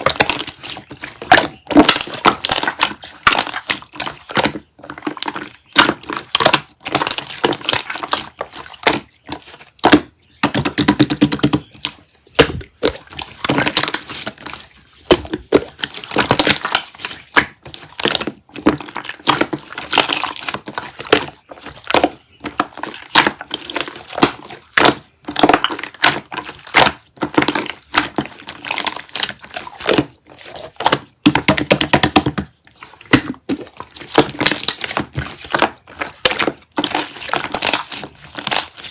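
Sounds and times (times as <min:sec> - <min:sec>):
crunching and crackling: 0:00.0 - 0:38.9.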